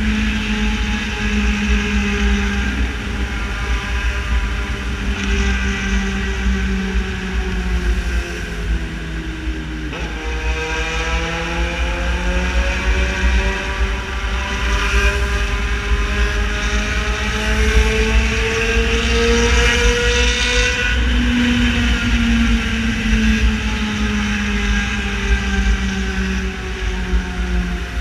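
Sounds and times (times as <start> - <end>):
motorcycle engine with loud exhaust: 0.0 - 28.0.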